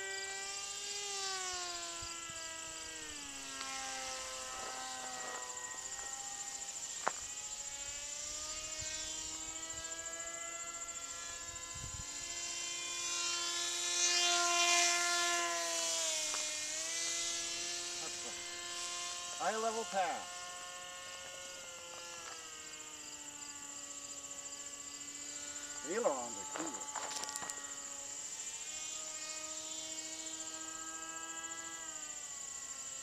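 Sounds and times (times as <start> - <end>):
model plane motor whine: 0.0 - 33.0.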